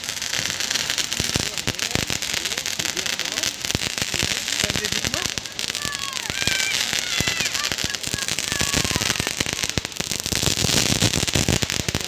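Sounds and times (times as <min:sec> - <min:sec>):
firecrackers popping: 0:00.0 - 0:12.0.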